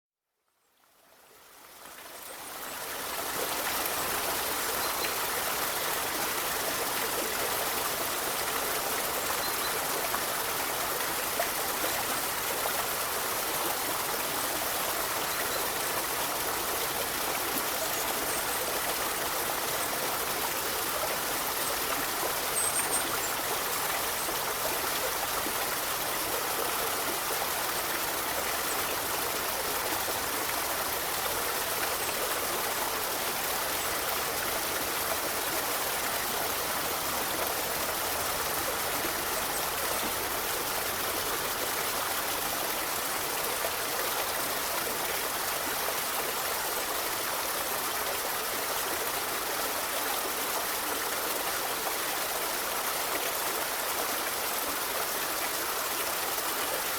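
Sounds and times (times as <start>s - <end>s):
river flowing over stones: 1.4s - 56.9s.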